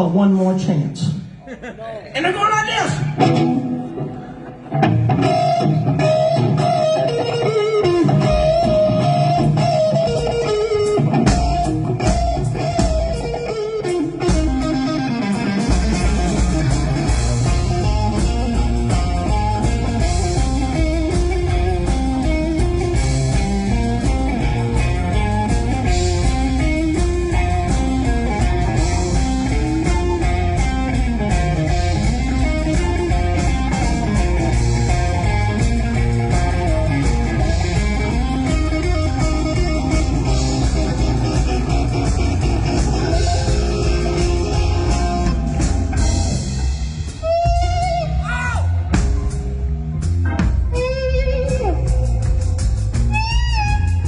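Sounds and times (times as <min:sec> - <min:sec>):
blues rock band playing: 0:02.2 - 0:54.0
electric guitar bent notes: 0:03.0 - 0:54.0.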